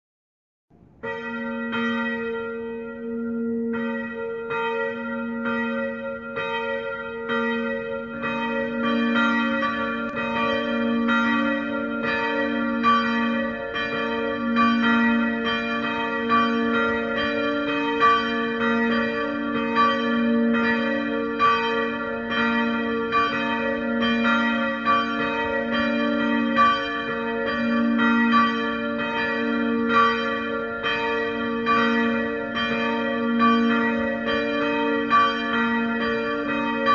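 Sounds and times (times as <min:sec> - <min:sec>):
church bells ringing: 0:00.8 - 0:36.9.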